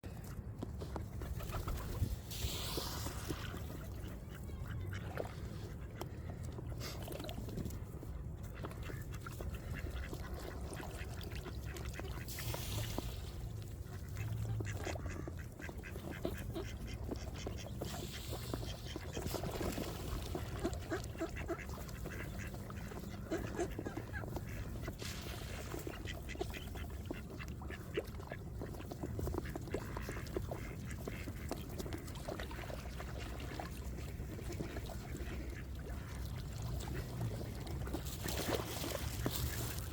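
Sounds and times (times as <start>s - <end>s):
ducks quacking: 1.2s - 39.9s.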